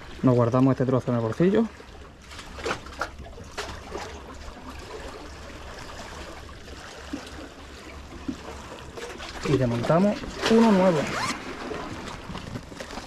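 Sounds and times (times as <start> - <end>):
water lapping among rocks: 1.2 - 13.0.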